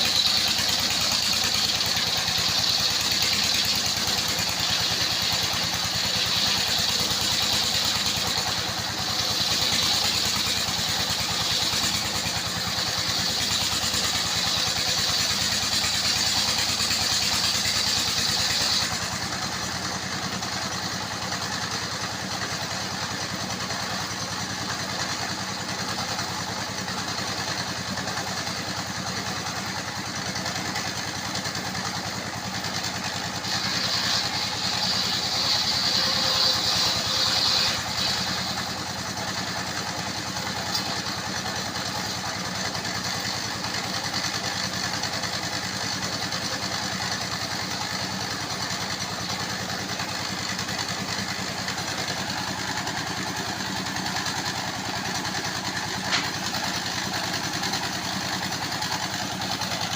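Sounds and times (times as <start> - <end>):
circular sawmill running: 0.0 - 59.9
saw blade cutting through log: 0.0 - 59.9.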